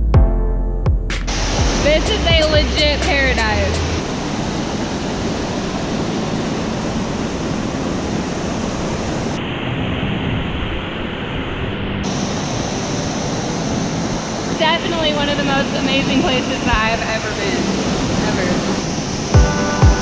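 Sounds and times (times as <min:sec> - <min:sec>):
waterfall roaring: 0:01.3 - 0:09.8, 0:10.4 - 0:20.0.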